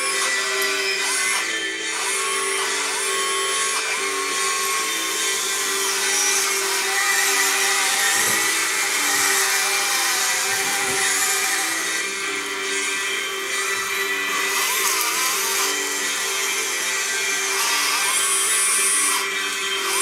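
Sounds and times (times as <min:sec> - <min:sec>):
toy electric motors whining: 0:00.0 - 0:20.0.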